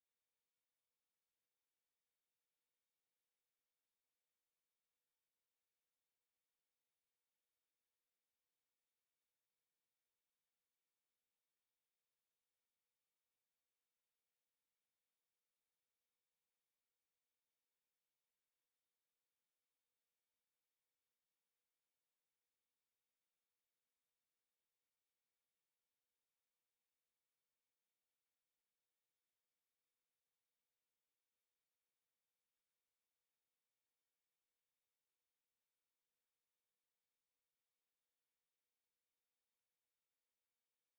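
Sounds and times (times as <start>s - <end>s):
high-pitched sine test tone: 0.0s - 40.9s.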